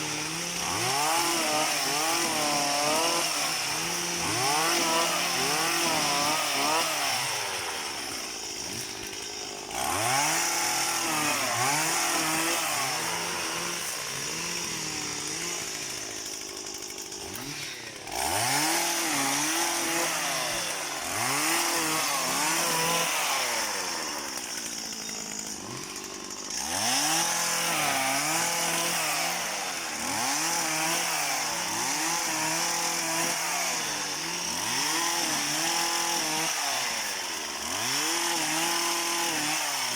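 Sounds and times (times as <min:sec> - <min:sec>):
small petrol engine revving: 0:00.0 - 0:16.4, 0:17.2 - 0:39.9.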